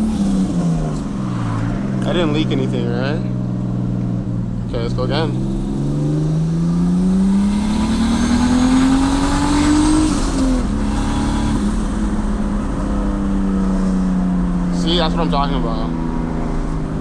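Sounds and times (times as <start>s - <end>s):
turbocharged car engine accelerating: 0.0s - 17.0s.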